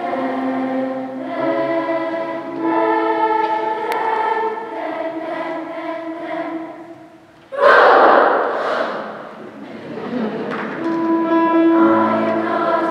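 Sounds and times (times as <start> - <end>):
children's choir singing: 0.0 - 12.9.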